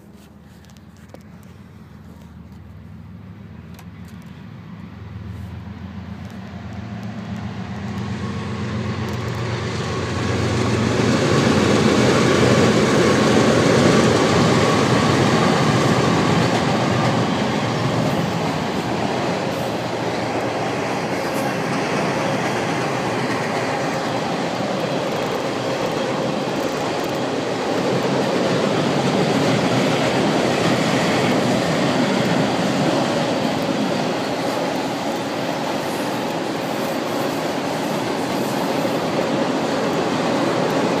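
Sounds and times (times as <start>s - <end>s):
diesel locomotive engine hum: 0.0s - 41.0s
train wheels rumbling on rails: 3.6s - 41.0s.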